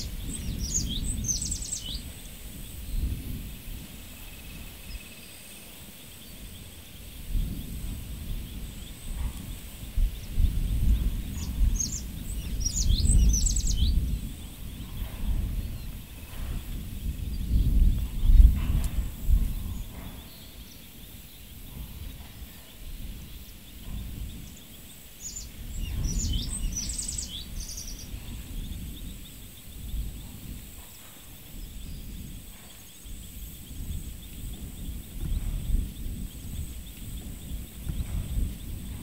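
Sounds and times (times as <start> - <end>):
bird chirps: 0.0 - 3.2, 4.0 - 39.0
low wind rumble in gusts: 0.0 - 39.0.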